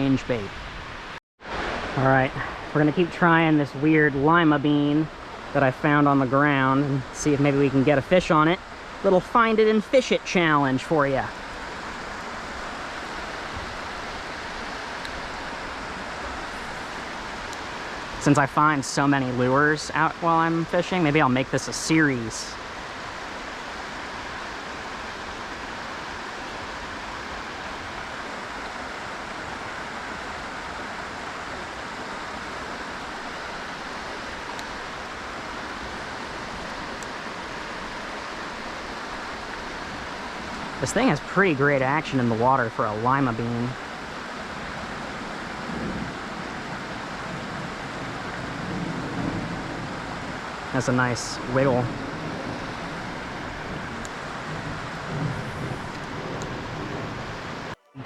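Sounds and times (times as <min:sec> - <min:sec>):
creek water running: 0:00.0 - 0:58.0.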